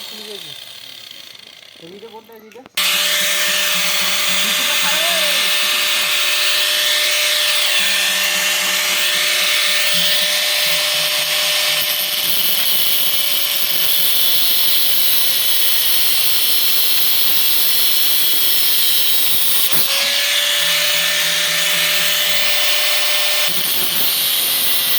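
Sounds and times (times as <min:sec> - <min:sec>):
power grinder cutting: 0:00.0 - 0:24.9.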